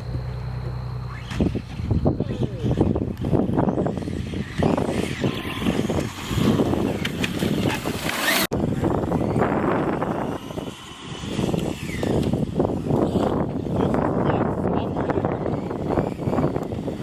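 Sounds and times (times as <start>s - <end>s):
radio-controlled car motor whine: 0.0s - 17.0s
wind buffeting microphone: 0.0s - 17.0s.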